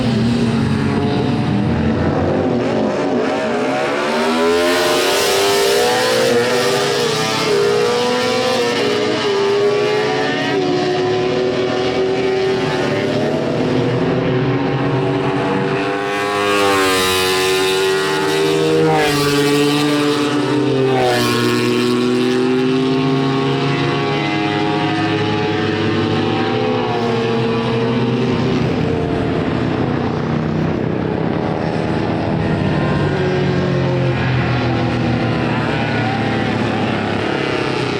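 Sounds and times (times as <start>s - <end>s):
racing motorcycle engines revving: 0.0s - 37.9s.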